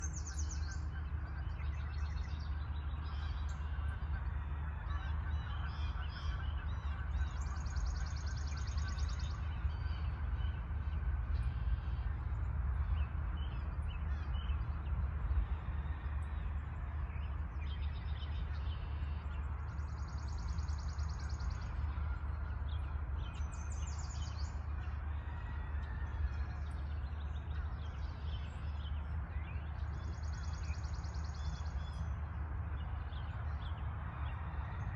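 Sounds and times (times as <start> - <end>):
birds singing and calling: 0.0 - 34.9
steady low rumble: 0.0 - 34.9.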